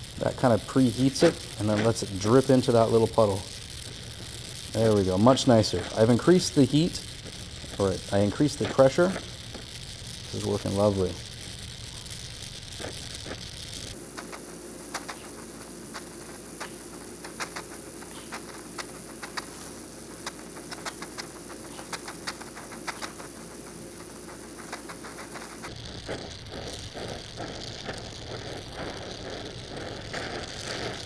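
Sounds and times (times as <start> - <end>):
crackles and pops from weld: 0.0 - 31.0
welding torch flame hissing: 0.0 - 31.0.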